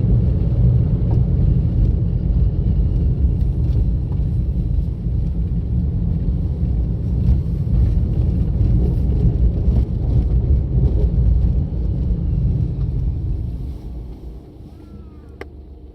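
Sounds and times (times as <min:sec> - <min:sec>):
car road and engine rumble: 0:00.0 - 0:15.9.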